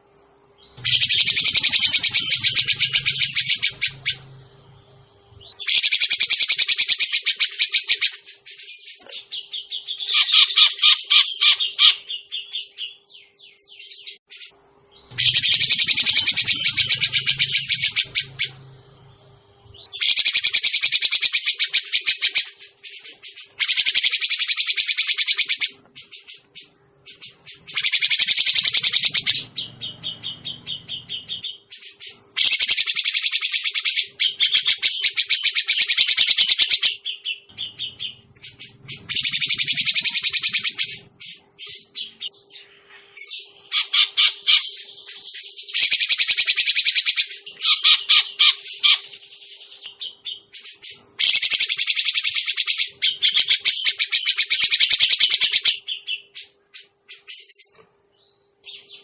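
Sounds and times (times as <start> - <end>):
faint steady hum: 0.0 - 59.0
bird rapid chattering calls: 0.6 - 4.6, 5.4 - 12.9, 14.4 - 19.0, 19.6 - 42.3, 43.2 - 49.2, 49.8 - 57.8.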